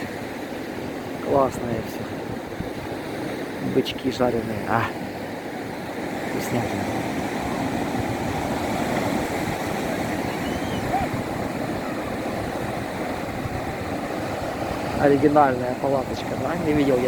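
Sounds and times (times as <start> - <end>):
surf washing on beach: 0.0 - 17.0.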